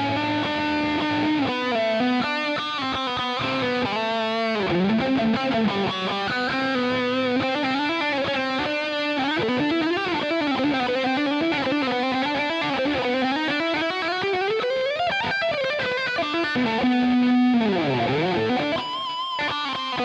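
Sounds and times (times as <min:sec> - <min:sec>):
distorted electric guitar lead: 0:00.0 - 0:20.0.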